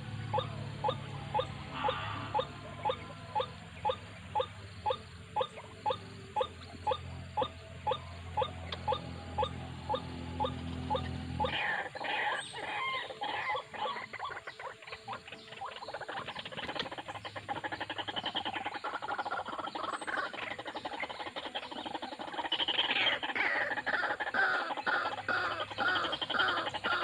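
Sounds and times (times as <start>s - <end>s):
waterhens calling: 0.0s - 27.0s.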